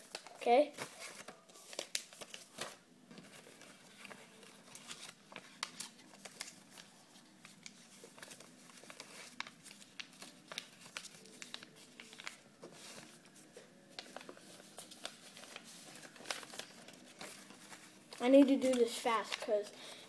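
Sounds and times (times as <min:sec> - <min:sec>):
paper crinkling and creasing: 0:00.0 - 0:20.0.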